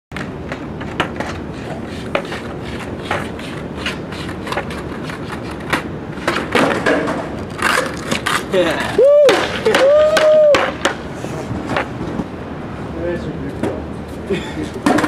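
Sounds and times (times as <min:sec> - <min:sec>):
skateboard wheels clacking on seams: 0:00.1 - 0:12.3
skateboard wheels rolling on concrete: 0:00.1 - 0:15.0
skateboard clattering: 0:00.2 - 0:12.3, 0:14.7 - 0:15.0.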